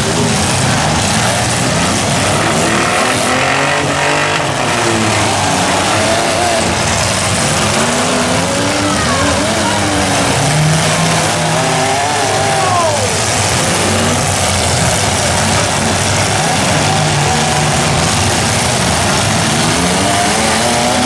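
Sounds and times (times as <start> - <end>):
car engines running hard: 0.0 - 21.0
engine revving: 0.0 - 21.0.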